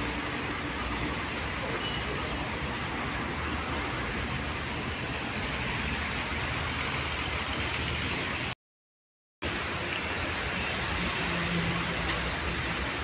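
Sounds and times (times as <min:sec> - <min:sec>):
traffic noise: 0:00.0 - 0:08.6, 0:09.4 - 0:13.0.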